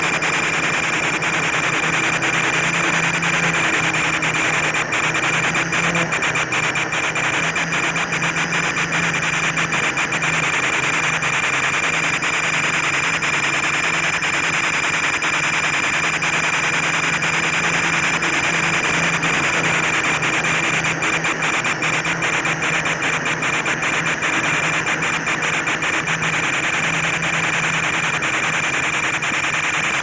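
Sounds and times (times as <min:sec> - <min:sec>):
quadcopter propellers humming: 0:00.0 - 0:30.0.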